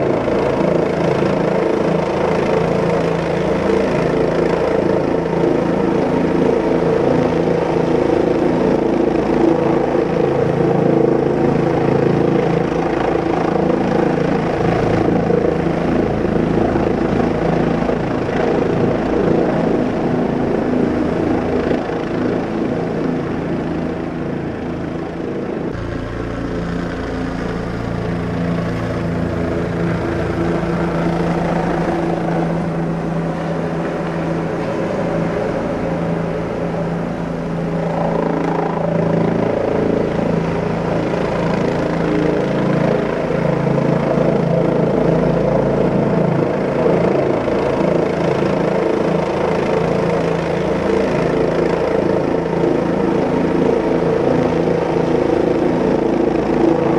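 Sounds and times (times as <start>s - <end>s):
helicopter rotor and engine: 0.0s - 56.9s.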